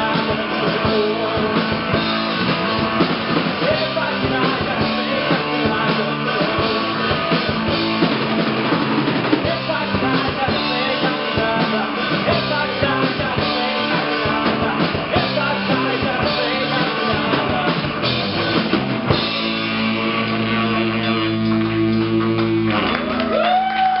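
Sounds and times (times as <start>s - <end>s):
person singing: 0.0s - 8.4s, 9.2s - 24.0s
live rock band playing: 0.0s - 24.0s.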